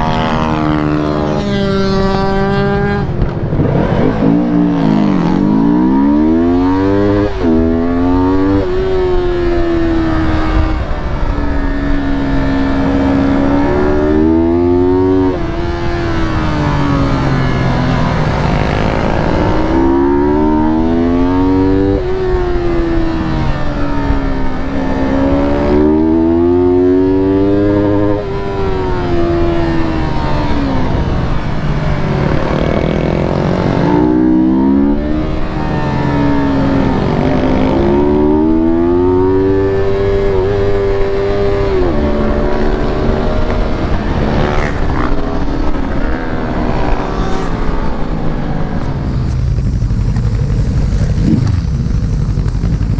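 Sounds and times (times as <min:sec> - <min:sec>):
motorcycle engine accelerating: 0:00.0 - 0:52.9
steady rushing noise: 0:00.0 - 0:52.9.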